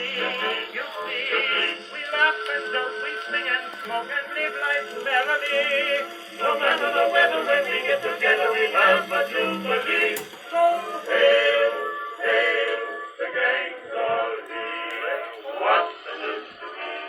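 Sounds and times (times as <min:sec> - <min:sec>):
male vocal quartet singing: 0:00.0 - 0:17.0.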